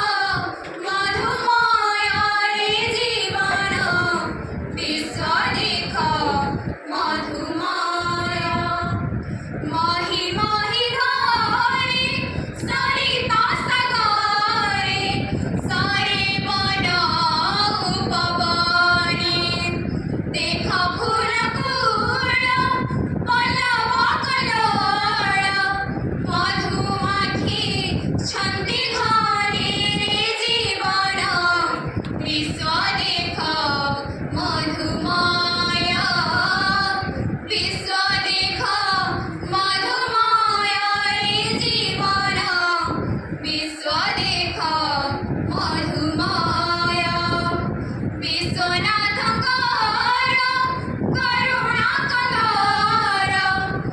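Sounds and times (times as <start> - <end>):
women singing into microphone: 0.0 - 53.9.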